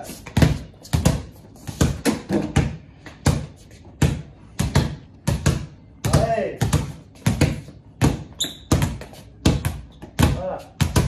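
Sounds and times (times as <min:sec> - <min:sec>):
basketballs bouncing on tiled floor: 0:00.0 - 0:11.0.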